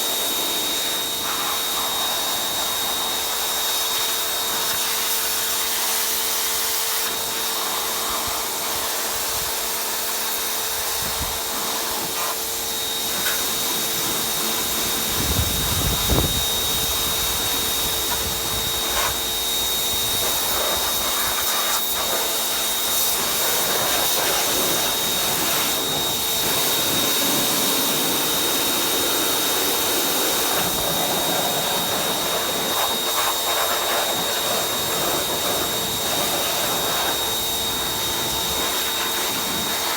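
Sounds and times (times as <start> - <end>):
pressure washer motor hum: 0.0 - 39.9.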